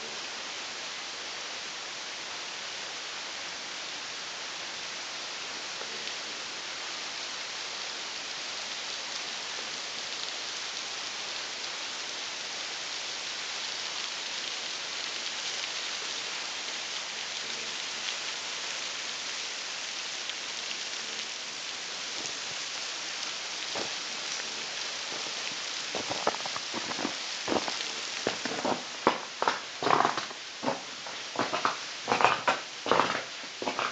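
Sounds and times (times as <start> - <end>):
waterfall rushing: 4.4 - 33.9.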